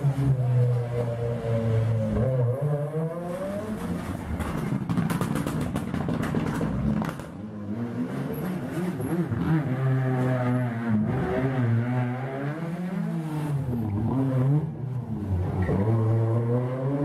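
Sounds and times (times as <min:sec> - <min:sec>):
rally car engine revving: 0:00.0 - 0:17.0
second rally car engine: 0:00.0 - 0:17.0.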